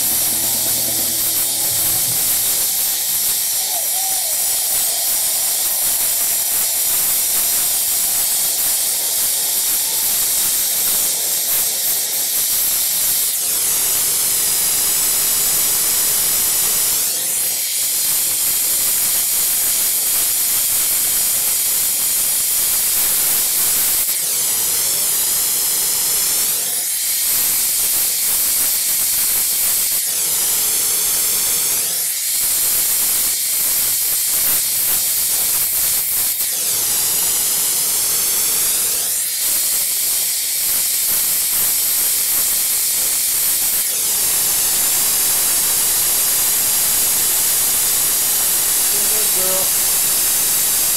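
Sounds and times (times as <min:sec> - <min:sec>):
glassworking torch flame hissing: 0:00.0 - 0:50.9.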